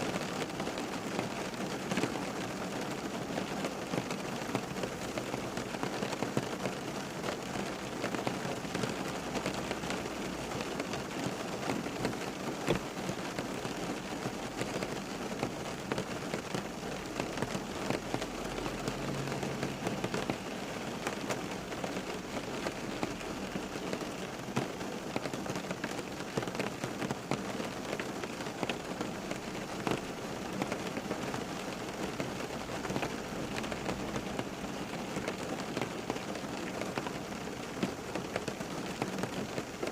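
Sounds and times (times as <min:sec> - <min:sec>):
rain falling: 0:00.0 - 0:39.9
raindrops pattering on a surface: 0:00.0 - 0:39.9.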